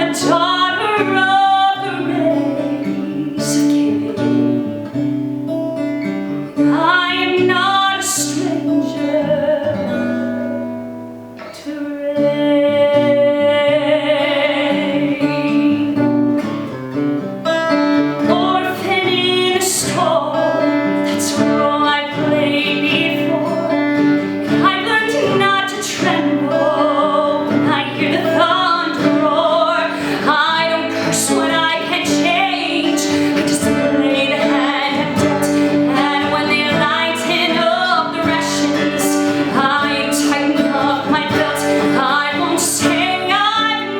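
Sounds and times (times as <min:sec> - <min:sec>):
woman singing with vibrato: 0:00.0 - 0:16.8, 0:17.4 - 0:43.9
acoustic guitar: 0:00.0 - 0:43.9.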